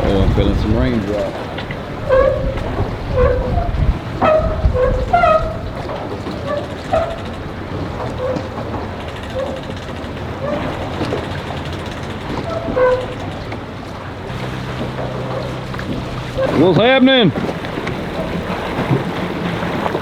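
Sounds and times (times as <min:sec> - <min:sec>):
low engine hum: 0:00.0 - 0:20.0
wind: 0:00.0 - 0:20.0.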